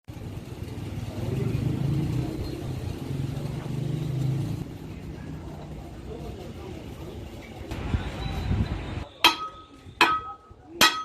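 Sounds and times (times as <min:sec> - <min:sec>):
engine humming: 0:00.1 - 0:10.4.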